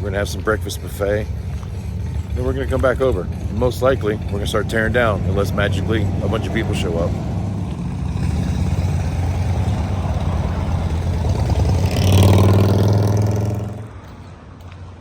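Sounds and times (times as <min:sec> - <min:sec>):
vehicle engine passing: 0:00.0 - 0:15.0.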